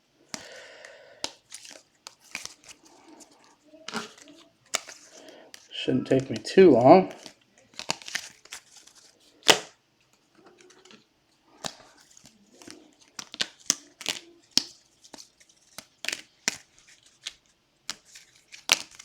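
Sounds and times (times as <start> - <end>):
plastic wrappers crinkling: 0.2 - 19.0
cards clicking and tapping: 0.3 - 19.0.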